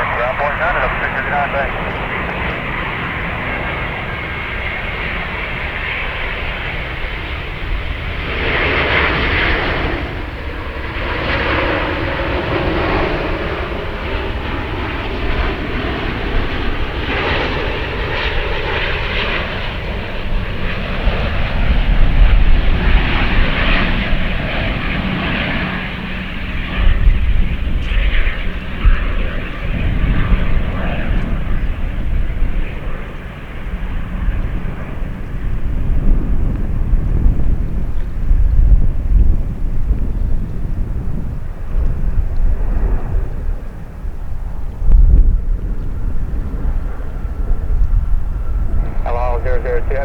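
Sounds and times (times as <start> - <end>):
jet engines running: 0.0 - 50.0.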